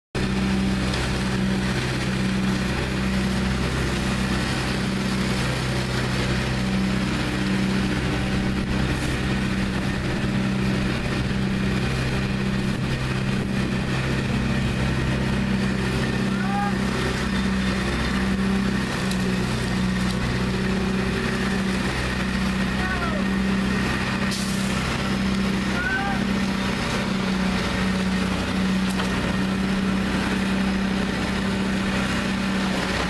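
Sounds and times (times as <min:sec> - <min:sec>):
leaf vacuum engine drone: 0:00.2 - 0:33.0.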